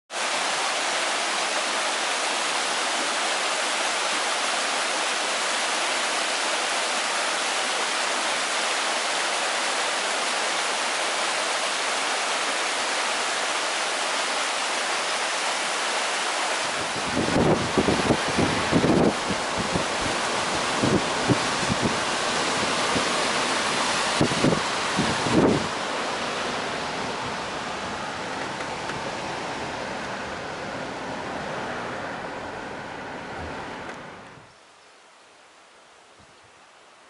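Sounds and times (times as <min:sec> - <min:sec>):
stream rushing over rocks: 0:00.1 - 0:37.0.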